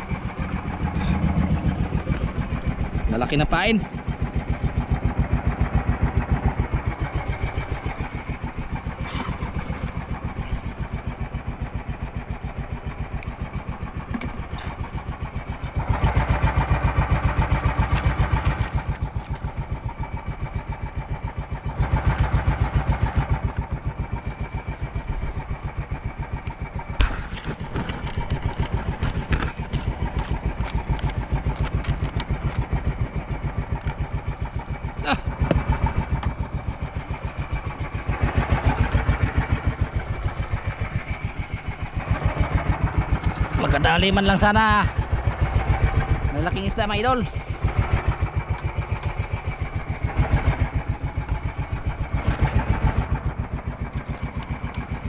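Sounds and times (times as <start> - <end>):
small boat engine running: 0.0 - 55.0.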